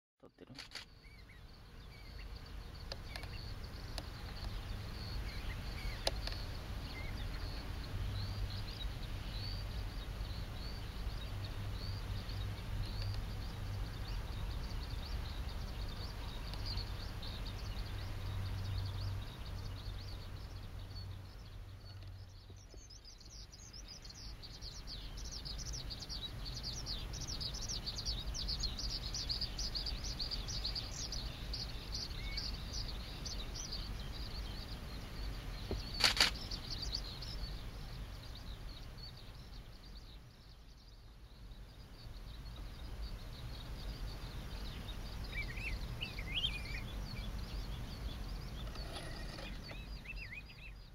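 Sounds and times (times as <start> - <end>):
birds chirping: 0.2 - 50.9
steady low rumble: 1.0 - 48.8.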